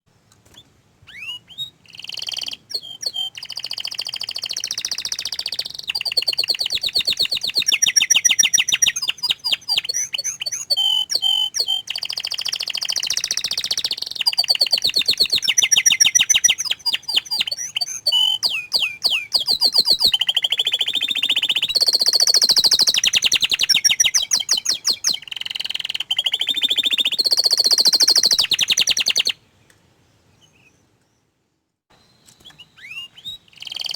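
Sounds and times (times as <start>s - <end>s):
canary singing trills: 0.5s - 29.4s, 31.9s - 33.9s.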